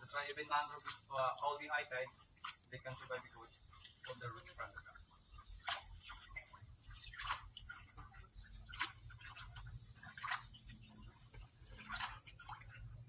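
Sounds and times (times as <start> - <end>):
high-pitched insect drone: 0.0 - 13.0
paddles splashing in water: 0.0 - 13.0.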